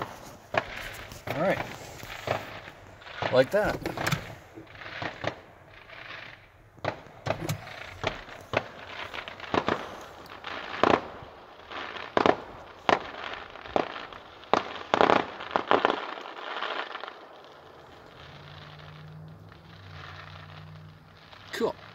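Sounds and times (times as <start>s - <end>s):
distant fireworks bangs: 0.0s - 21.9s.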